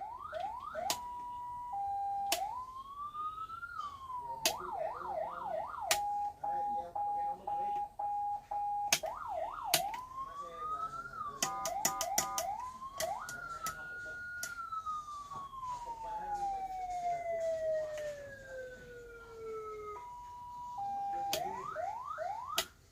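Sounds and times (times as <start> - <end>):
electronic fire truck siren: 0.0 - 22.9.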